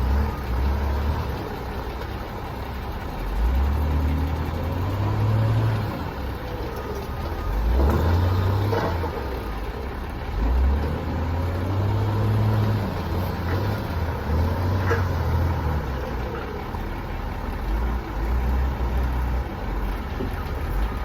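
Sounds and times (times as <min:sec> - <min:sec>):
truck engine pulling under load: 0:00.0 - 0:21.0.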